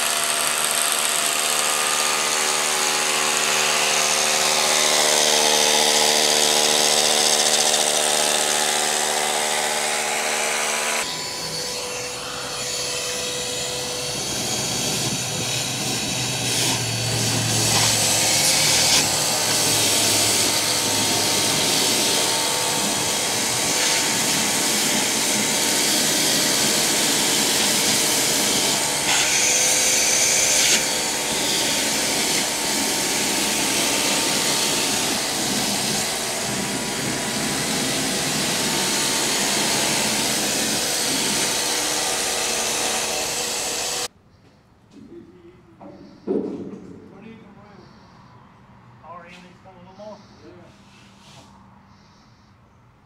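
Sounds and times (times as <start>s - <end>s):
electric drill boring into concrete: 0.0s - 44.1s.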